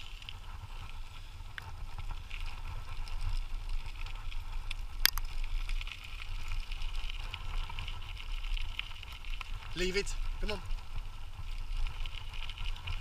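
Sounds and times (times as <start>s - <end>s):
wheels rumbling on a trail: 0.0s - 13.0s.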